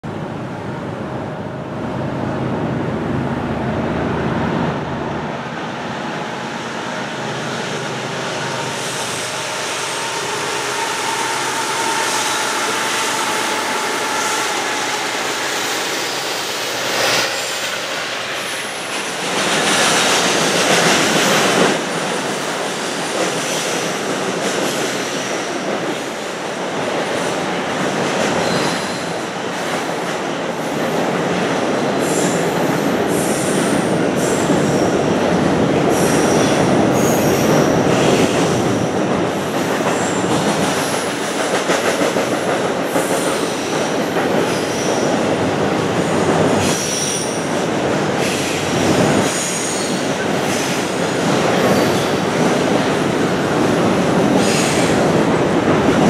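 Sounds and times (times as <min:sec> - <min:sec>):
train wheels rumbling on bridge: 0:05.9 - 0:56.0.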